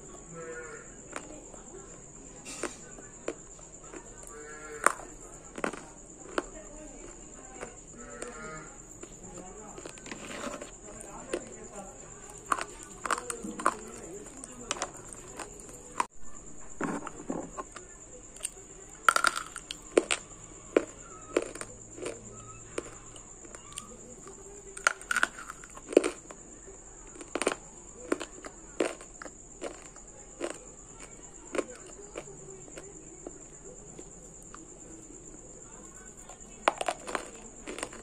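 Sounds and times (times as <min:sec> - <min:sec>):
clay being bitten and chewed: 0:02.4 - 0:16.1, 0:16.8 - 0:26.4, 0:27.0 - 0:38.0.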